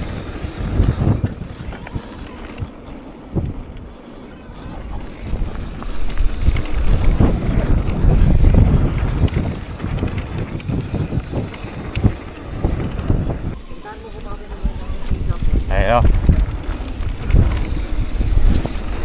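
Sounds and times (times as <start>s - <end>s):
wind on microphone: 0.0s - 13.6s, 14.4s - 19.0s
mountain bike rattling over trail: 0.0s - 19.0s.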